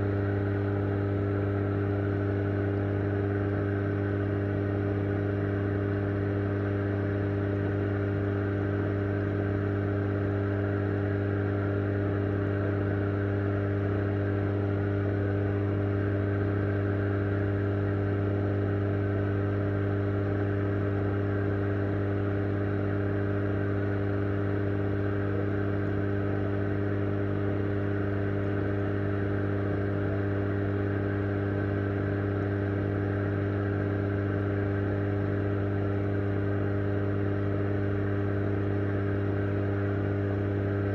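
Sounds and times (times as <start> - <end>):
aquarium pump humming: 0.0 - 40.9.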